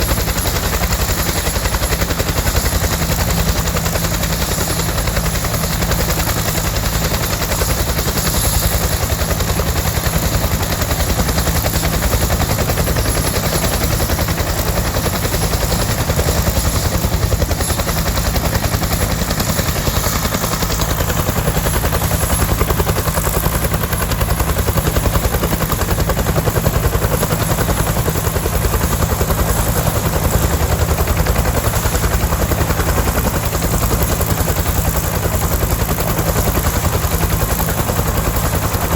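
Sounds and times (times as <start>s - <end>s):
helicopter rotor beating: 0.0s - 38.9s.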